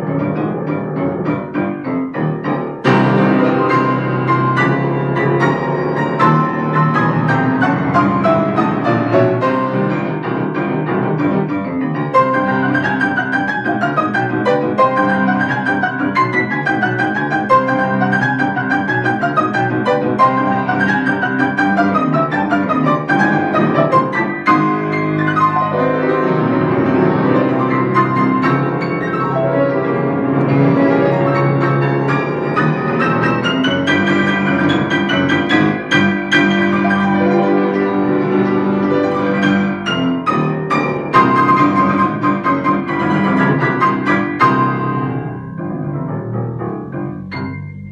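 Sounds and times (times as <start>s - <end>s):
solo piano playing: 0.0s - 47.9s.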